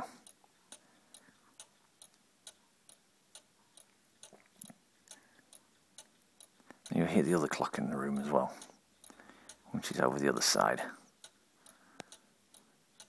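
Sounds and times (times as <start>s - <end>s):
clock ticking faintly: 0.0s - 13.0s.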